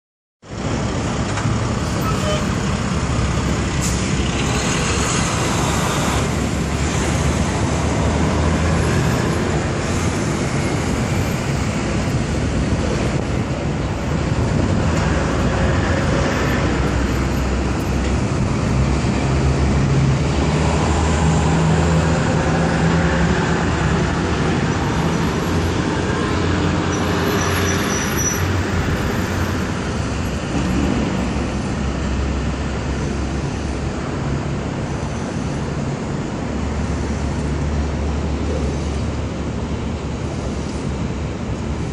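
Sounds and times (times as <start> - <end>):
road traffic hum: 0.4 - 41.9.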